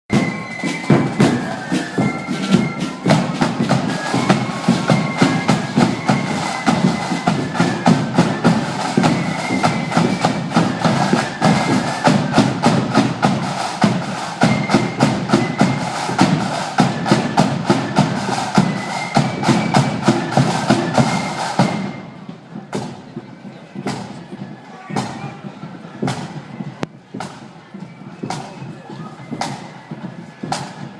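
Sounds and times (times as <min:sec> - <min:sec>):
drums beating: 0:00.1 - 0:30.9
marching band melody instruments: 0:00.1 - 0:30.9.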